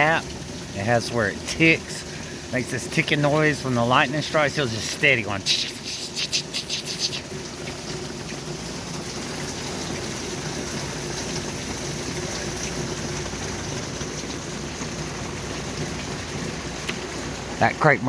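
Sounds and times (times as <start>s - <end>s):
rain on tin window covers: 0.0s - 18.0s.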